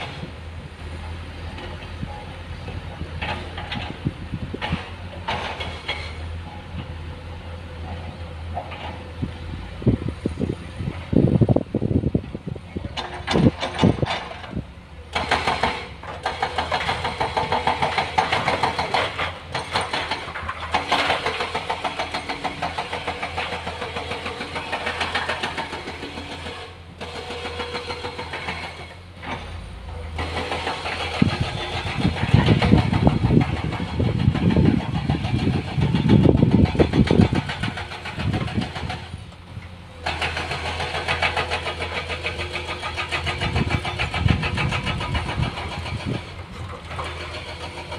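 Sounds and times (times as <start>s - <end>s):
heavy diesel machinery engines: 0.0s - 47.9s.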